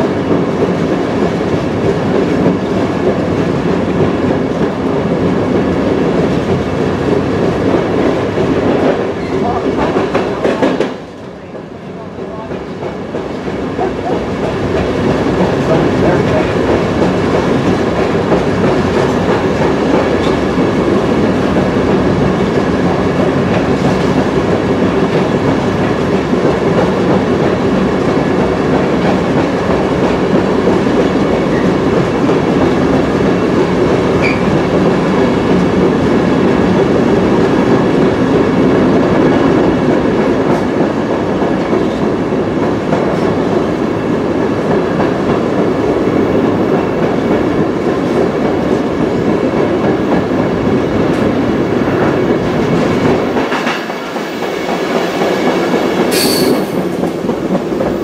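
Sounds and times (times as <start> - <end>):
train wheels rumbling in tunnel: 0.0 - 58.0.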